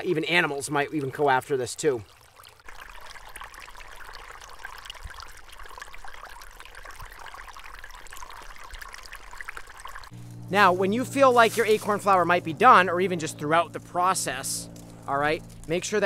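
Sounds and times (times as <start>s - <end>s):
stream trickling over rocks: 0.0s - 16.0s.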